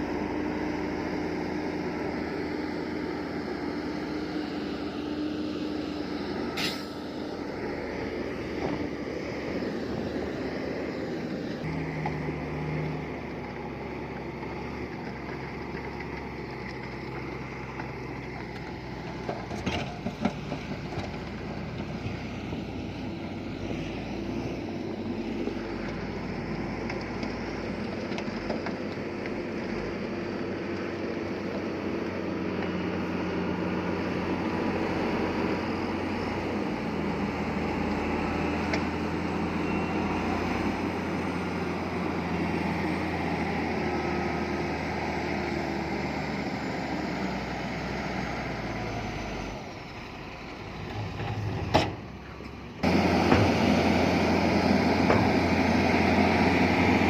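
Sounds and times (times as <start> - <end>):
bulldozer engine running: 0.0 - 57.0.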